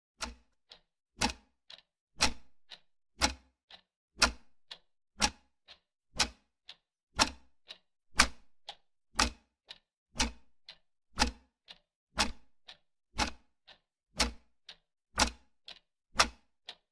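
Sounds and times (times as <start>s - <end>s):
clock ticking: 0.2s - 16.9s.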